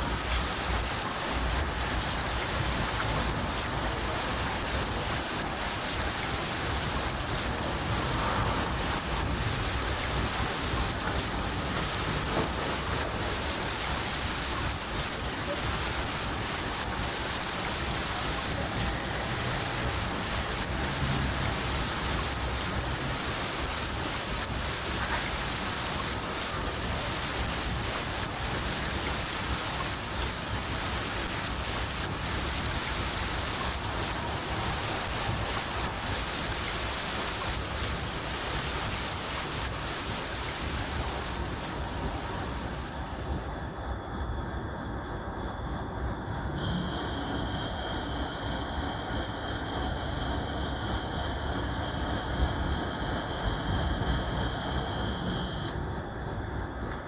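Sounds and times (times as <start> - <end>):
crickets chirping: 0.0 - 57.0
rain hiss: 0.0 - 57.0.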